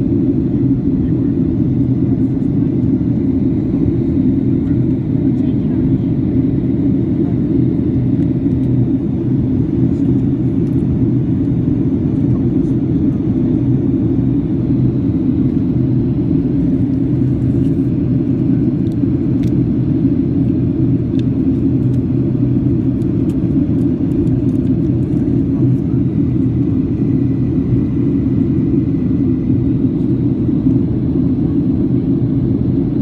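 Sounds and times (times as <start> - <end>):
airliner cabin rumble: 0.0 - 33.0.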